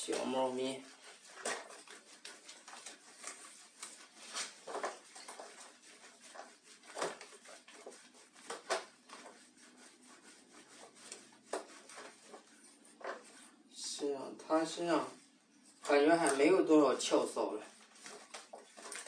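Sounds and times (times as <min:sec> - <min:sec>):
hands scrubbing wet fur: 0:00.0 - 0:19.0.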